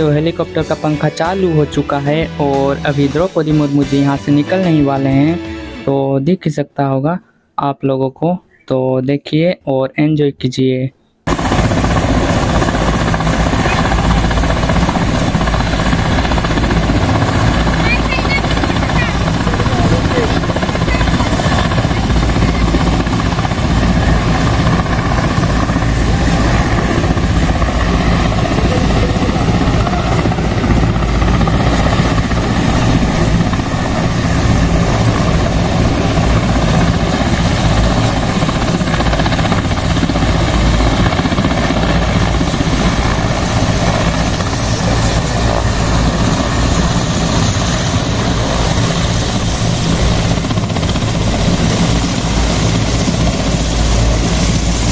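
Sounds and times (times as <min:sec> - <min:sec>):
helicopter rotor and turbine whir: 0:00.0 - 0:05.9, 0:11.3 - 0:54.9.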